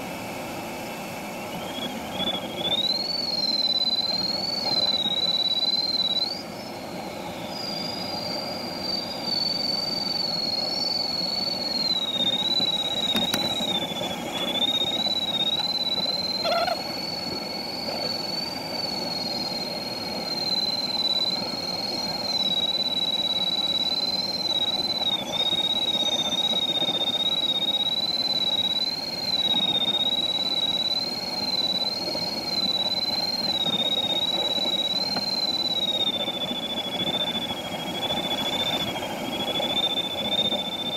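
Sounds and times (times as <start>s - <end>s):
variometer high tone: 1.3s - 40.9s.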